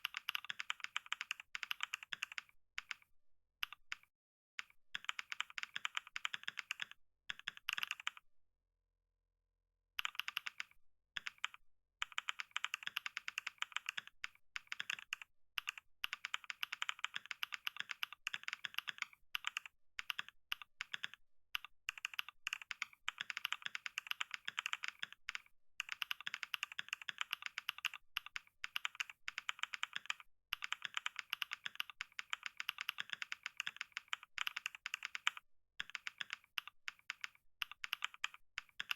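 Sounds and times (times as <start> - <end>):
fast keyboard typing: 0.0 - 3.0, 5.0 - 8.2, 10.0 - 38.9.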